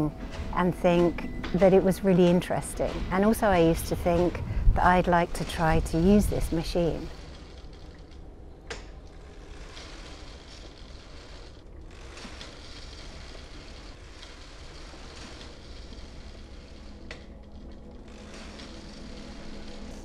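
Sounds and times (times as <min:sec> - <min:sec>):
knitting machine rattling: 0:00.0 - 0:20.0.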